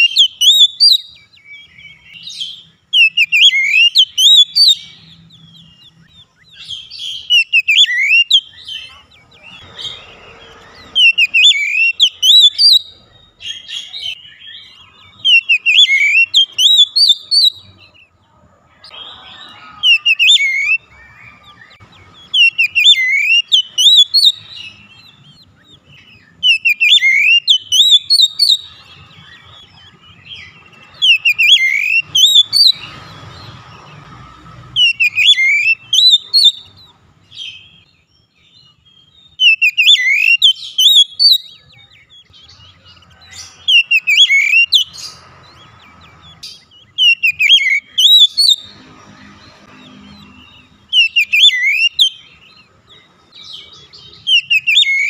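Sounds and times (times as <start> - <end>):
bird chattering: 0.0 - 18.1, 18.9 - 34.0, 39.4 - 48.9, 49.5 - 55.0
bird singing whistled notes: 0.0 - 18.1, 18.8 - 55.0.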